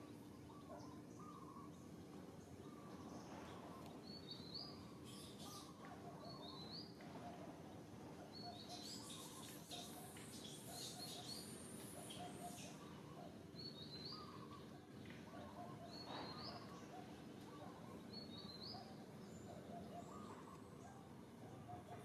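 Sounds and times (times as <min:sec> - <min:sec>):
faint birds chirping: 0:00.0 - 0:22.0
outdoor background noise: 0:00.0 - 0:22.0.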